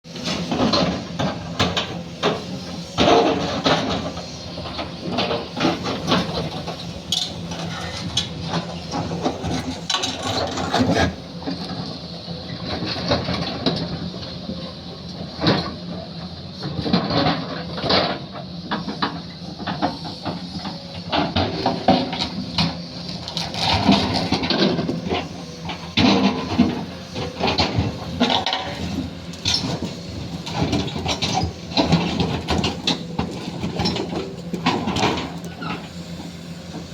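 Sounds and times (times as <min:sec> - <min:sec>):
diesel engine running: 0:00.1 - 0:36.9.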